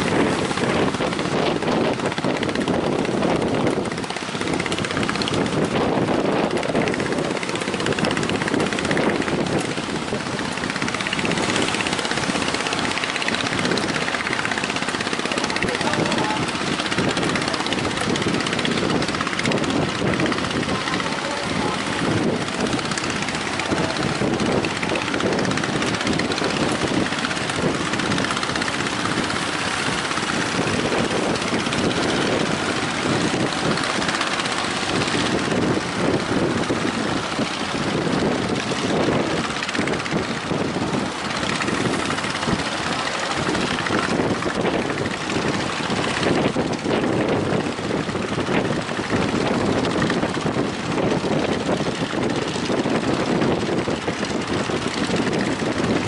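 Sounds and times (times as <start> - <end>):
boat engines running: 0.0 - 56.0
strong wind: 0.0 - 56.0.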